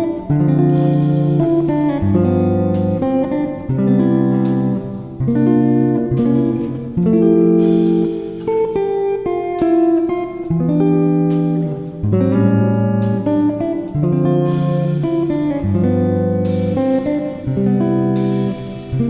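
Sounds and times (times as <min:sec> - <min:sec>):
plucked guitar tune: 0:00.0 - 0:19.0.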